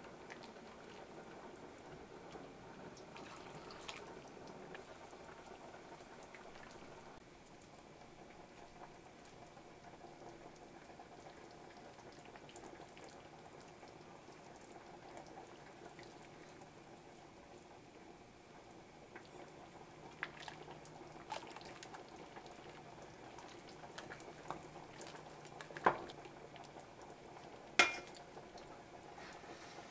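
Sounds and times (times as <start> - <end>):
liquid simmering in a pot: 0.0 - 29.9.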